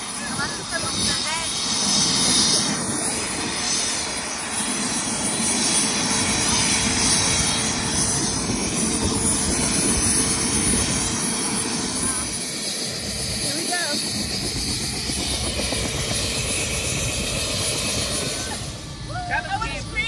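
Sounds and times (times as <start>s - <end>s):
helicopter rotor rush: 0.0s - 20.0s.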